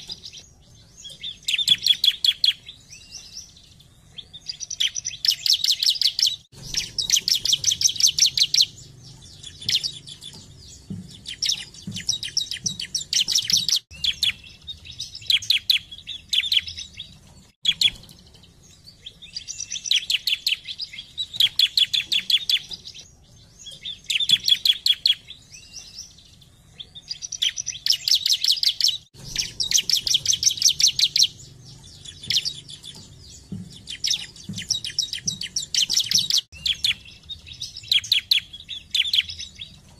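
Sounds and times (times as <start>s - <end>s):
bird singing trilled phrases: 0.0s - 39.9s.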